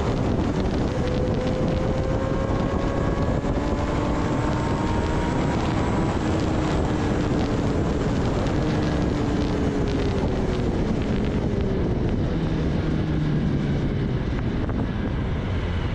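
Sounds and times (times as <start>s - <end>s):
motorcycle engine running: 0.0s - 15.9s
wind rushing over microphone: 0.0s - 15.9s.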